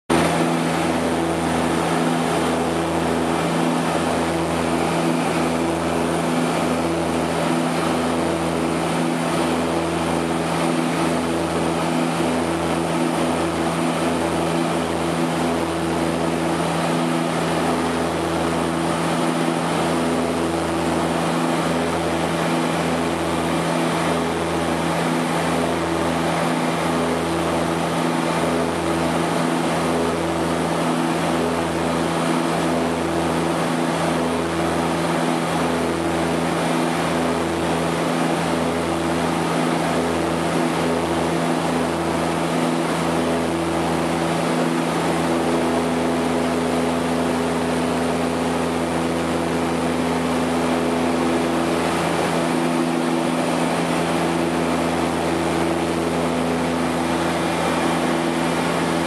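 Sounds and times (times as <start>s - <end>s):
propeller engines humming: 0.1s - 59.0s.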